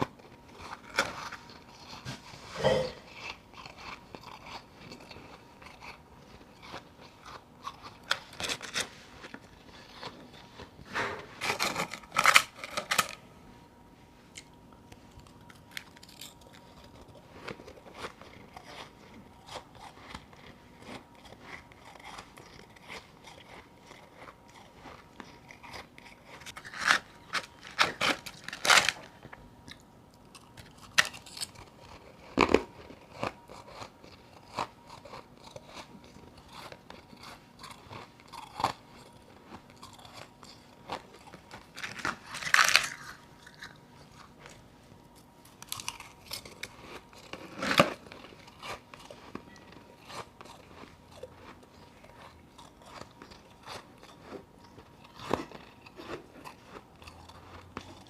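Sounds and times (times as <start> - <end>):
chewing ice crunches: 0.0 - 10.8, 11.4 - 13.2, 15.2 - 58.0.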